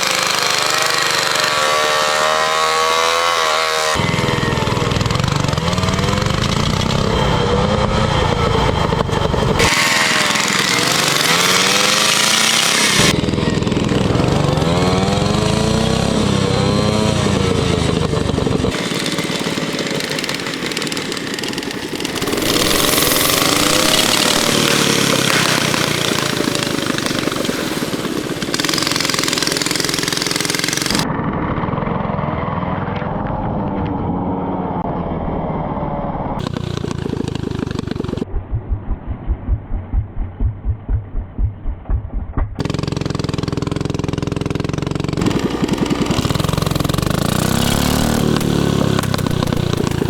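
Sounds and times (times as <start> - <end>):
motorcycle engines revving: 0.0 - 38.8, 42.6 - 50.0.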